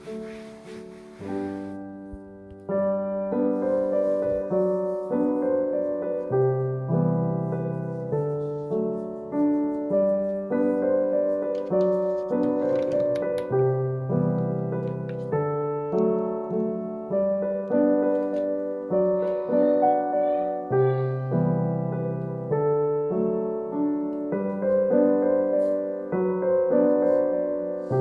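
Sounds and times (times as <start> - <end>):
gentle piano tune: 0.0 - 28.0.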